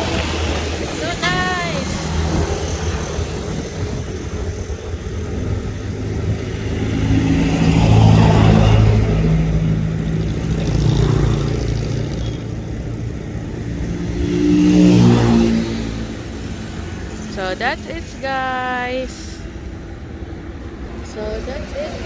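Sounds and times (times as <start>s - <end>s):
steady low traffic rumble: 0.0s - 22.0s
vehicles passing close by: 0.0s - 22.0s.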